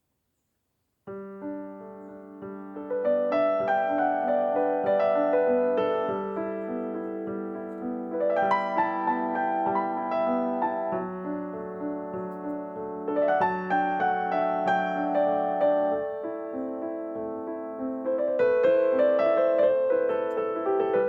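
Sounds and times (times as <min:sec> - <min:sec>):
piano music: 0:01.1 - 0:21.0.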